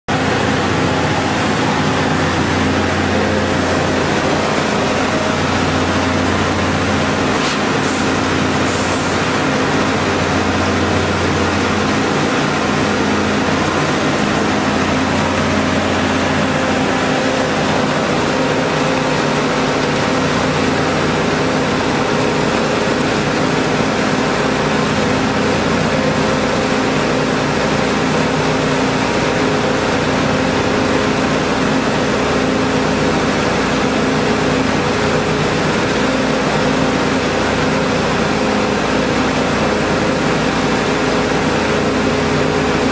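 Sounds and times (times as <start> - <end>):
centrifuge machine drone: 0.1 - 42.9.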